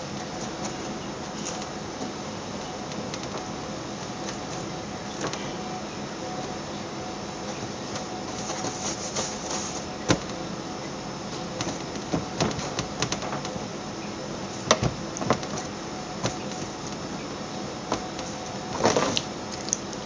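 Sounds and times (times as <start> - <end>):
kitchen machinery hum: 0.0 - 20.0.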